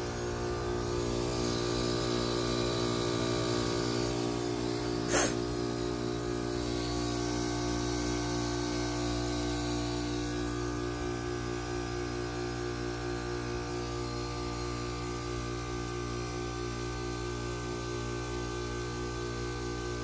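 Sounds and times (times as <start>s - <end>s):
heat pump humming: 0.0s - 17.8s.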